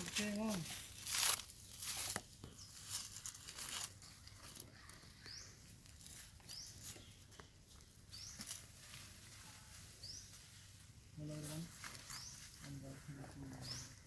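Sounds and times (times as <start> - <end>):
dry leaves rustling: 0.0 - 14.0.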